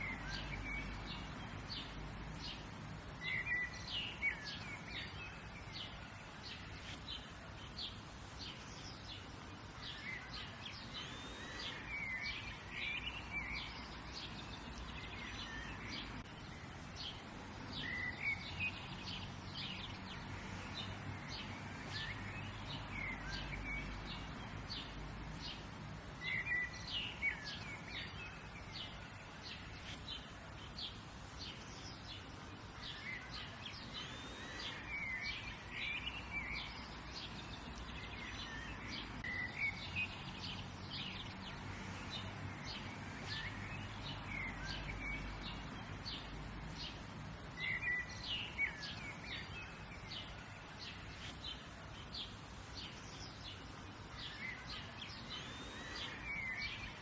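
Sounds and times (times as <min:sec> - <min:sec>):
faint outdoor rumble: 0:00.0 - 0:57.0
songbirds chirping: 0:00.0 - 0:57.0.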